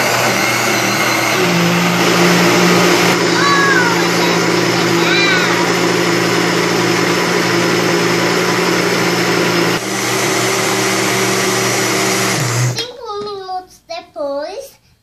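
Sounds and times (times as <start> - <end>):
blender motor running: 0.0 - 12.8.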